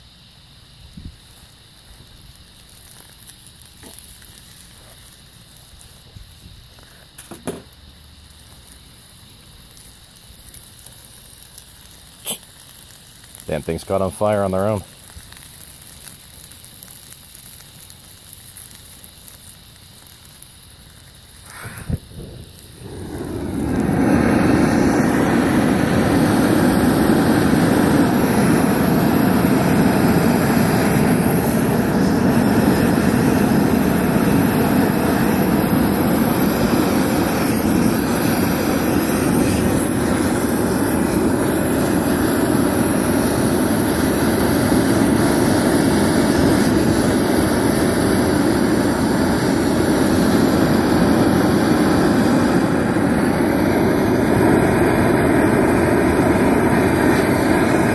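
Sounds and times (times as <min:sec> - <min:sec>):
propane torch burning: 0:00.0 - 0:57.9.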